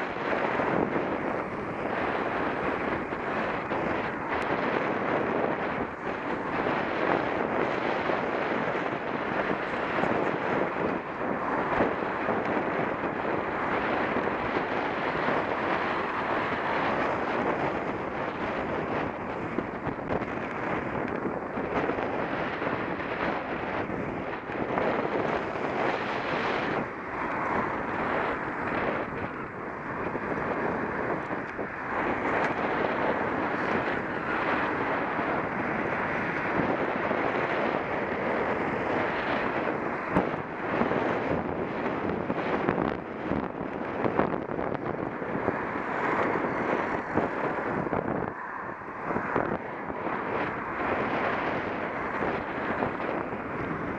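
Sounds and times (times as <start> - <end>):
road traffic: 0.0 - 53.9
wind rushing on microphone: 0.0 - 53.9.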